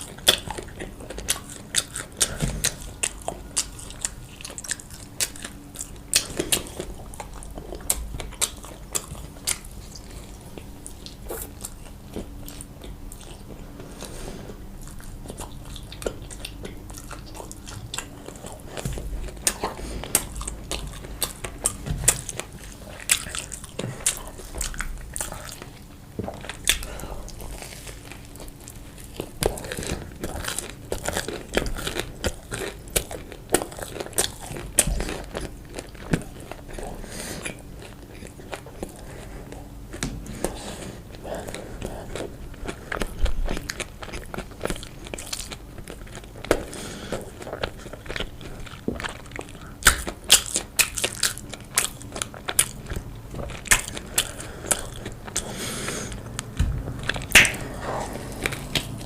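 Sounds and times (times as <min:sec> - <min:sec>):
chewing with sharp crunches: 0:00.0 - 0:59.0.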